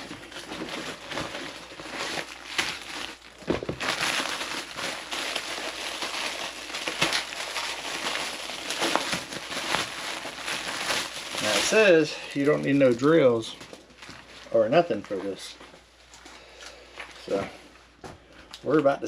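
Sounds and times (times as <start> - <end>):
plastic and cardboard crinkling: 0.0 - 17.8.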